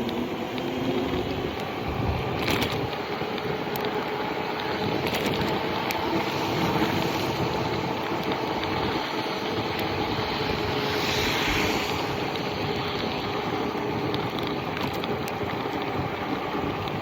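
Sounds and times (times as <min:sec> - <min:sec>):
tyre noise on wet road: 0:00.0 - 0:17.0
wind rushing over microphone: 0:00.0 - 0:17.0.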